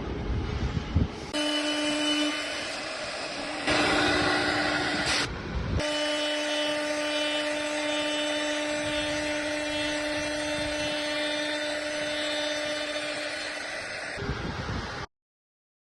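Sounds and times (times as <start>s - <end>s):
router spindle whining: 1.3s - 14.4s
router cutting wood: 1.4s - 14.2s.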